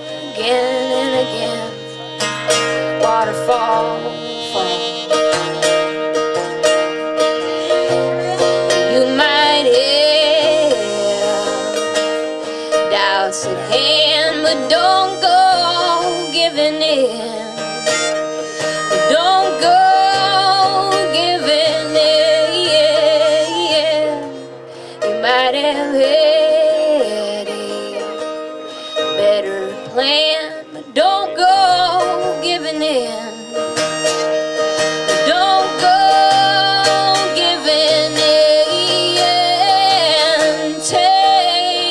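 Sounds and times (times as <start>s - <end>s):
plucked strings: 0.0s - 41.9s
strummed guitar: 0.0s - 41.9s
wavering lead melody: 0.0s - 41.9s.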